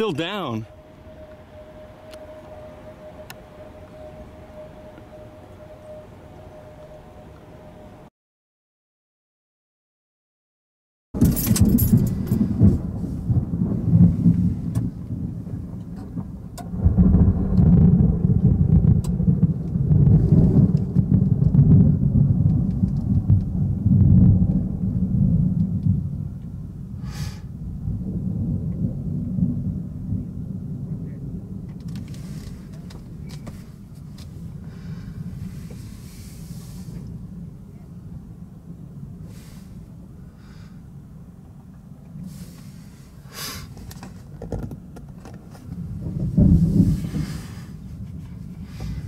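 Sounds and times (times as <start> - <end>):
thunder rumbling: 0.0 - 8.1, 11.2 - 43.3, 45.7 - 49.0.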